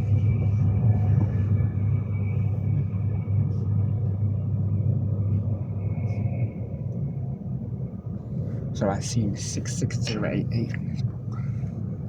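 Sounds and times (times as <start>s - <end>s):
train rumbling from inside carriage: 0.0s - 12.0s.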